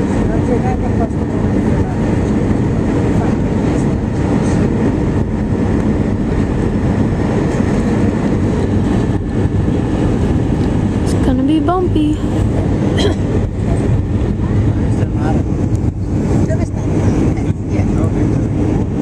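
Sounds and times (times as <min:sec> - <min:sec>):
airplane cabin engine and airflow noise: 0:00.0 - 0:19.0.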